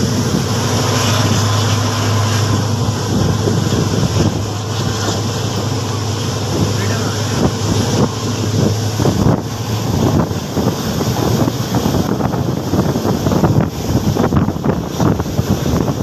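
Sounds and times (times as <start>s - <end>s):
train wheels rumbling and clattering: 0.0s - 16.0s
wind buffeting microphone: 0.0s - 16.0s.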